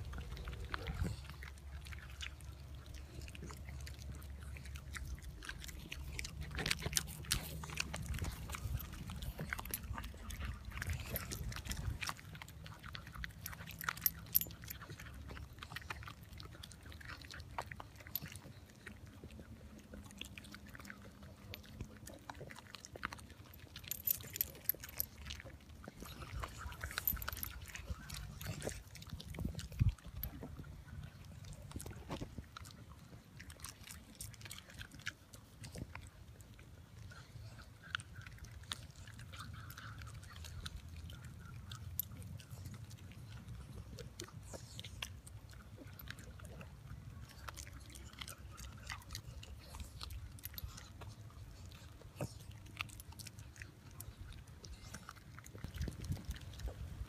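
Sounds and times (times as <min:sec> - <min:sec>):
dogs chewing and crunching: 0:00.0 - 0:57.0.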